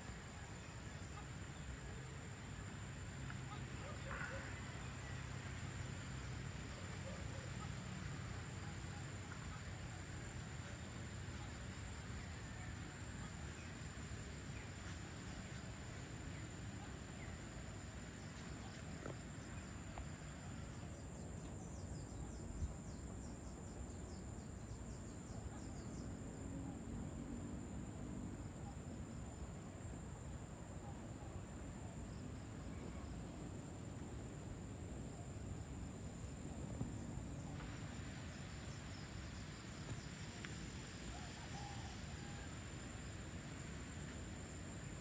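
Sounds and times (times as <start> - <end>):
crickets and insects trilling: 0.0 - 45.0
faint low rumble: 0.0 - 45.0.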